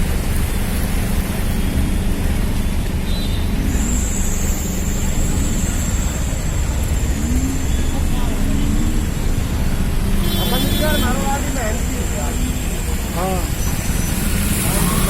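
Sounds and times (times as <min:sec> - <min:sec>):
motor traffic rumble: 0:00.0 - 0:15.0.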